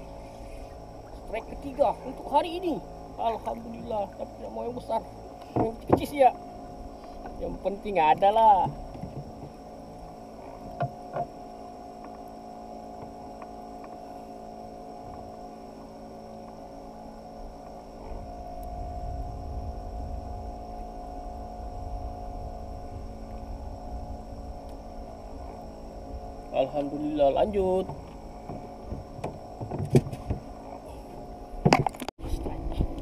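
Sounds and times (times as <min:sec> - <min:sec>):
low rumble: 0:00.0 - 0:33.0
steady tonal hum: 0:00.0 - 0:33.0.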